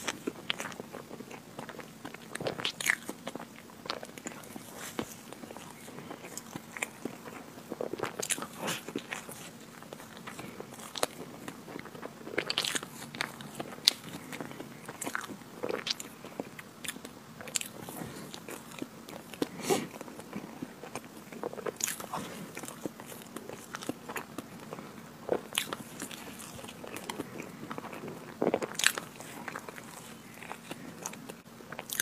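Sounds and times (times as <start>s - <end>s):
person chewing crunchy cake: 0.0s - 32.0s.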